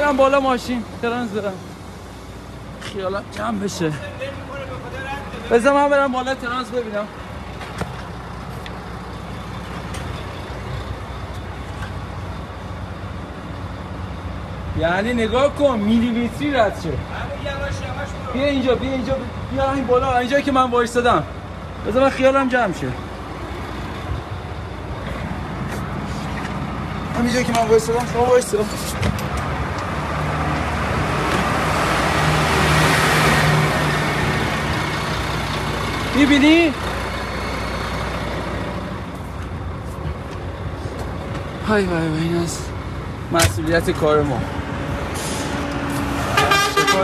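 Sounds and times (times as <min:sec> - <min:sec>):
truck engine rumbling: 0:00.0 - 0:47.0.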